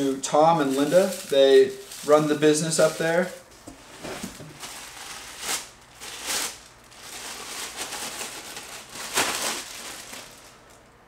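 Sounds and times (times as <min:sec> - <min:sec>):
plastic bag crinkling: 0:00.1 - 0:03.5, 0:04.3 - 0:11.0.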